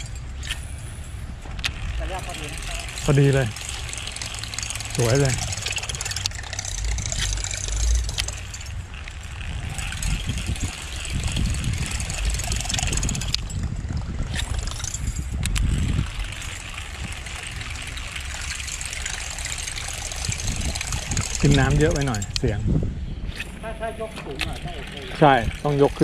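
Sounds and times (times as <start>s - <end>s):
lure blade churning water: 0.0s - 26.0s
sharp clicks: 1.5s - 22.6s, 23.3s - 26.0s.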